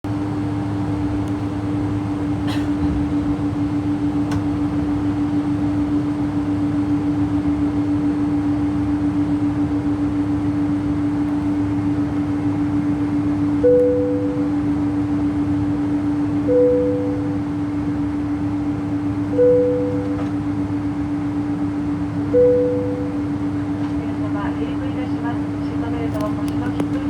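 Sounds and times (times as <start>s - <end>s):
airplane cabin drone: 0.0s - 27.0s.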